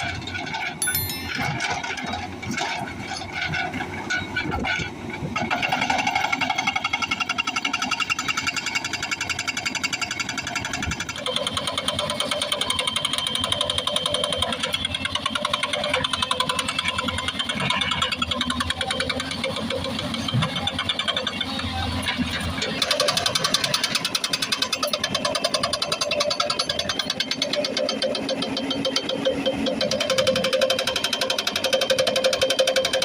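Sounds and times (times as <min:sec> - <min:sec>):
excavator engine: 0:02.4 - 0:33.0.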